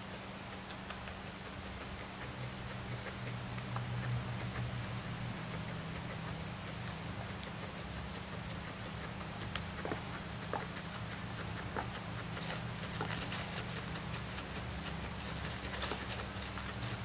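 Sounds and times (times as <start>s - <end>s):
guinea pig nibbling and clicking: 0.0s - 17.0s
steady low hum: 0.0s - 17.0s.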